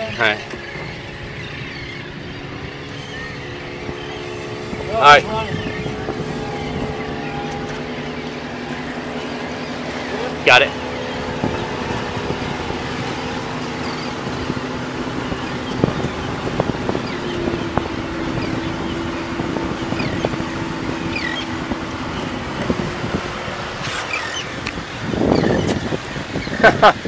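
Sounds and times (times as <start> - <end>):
motorboat engine humming: 0.0 - 27.0
wind noise: 0.0 - 27.0.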